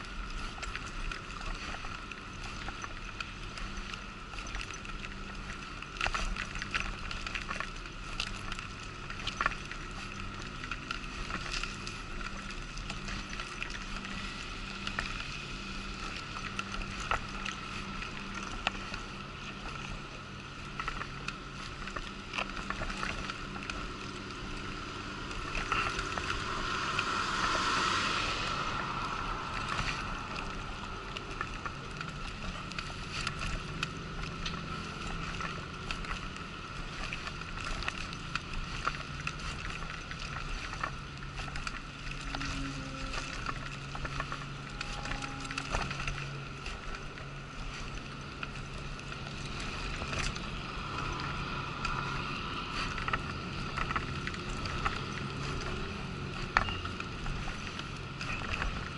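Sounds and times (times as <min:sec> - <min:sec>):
rush of noise: 0:00.0 - 0:58.9
wheelchair rolling over paving: 0:00.0 - 0:58.9.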